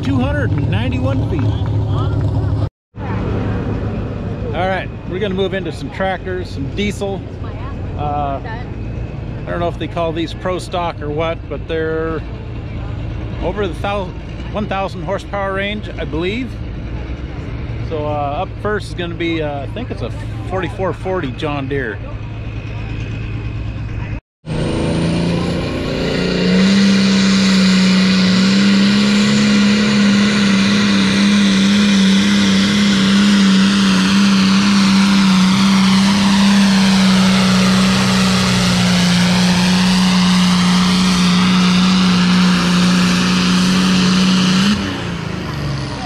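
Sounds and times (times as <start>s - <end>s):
tractor diesel engine at full throttle: 0.0s - 46.0s.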